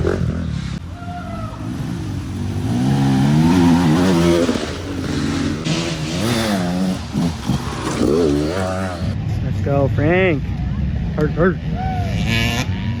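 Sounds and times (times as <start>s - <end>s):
dirt bike engines revving past: 0.0s - 13.0s.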